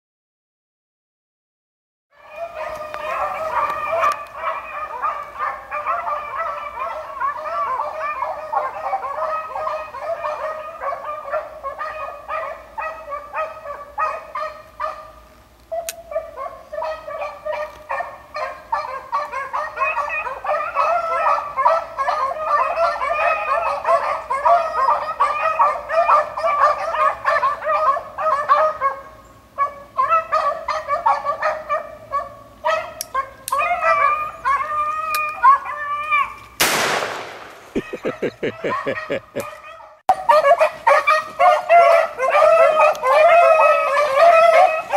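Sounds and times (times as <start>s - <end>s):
pack of dogs baying: 2.2s - 36.4s, 37.7s - 44.9s.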